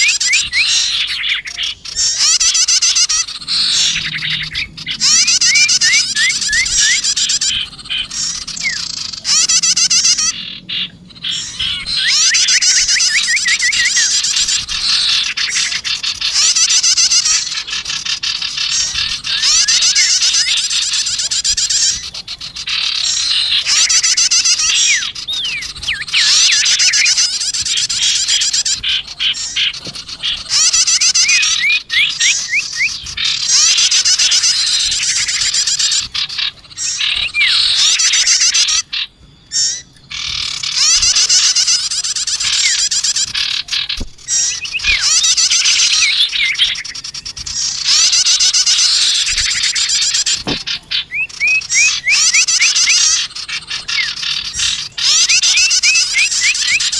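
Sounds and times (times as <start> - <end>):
songbirds chattering trills: 0.0 - 56.9.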